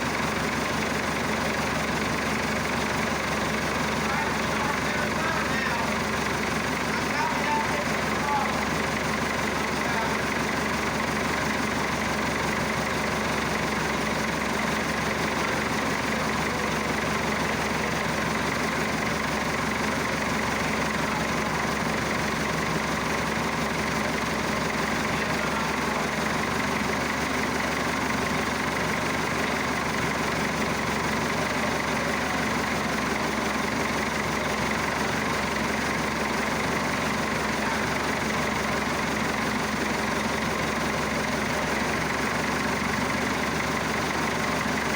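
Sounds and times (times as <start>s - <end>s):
diesel tractor engine idling: 0.0s - 44.9s.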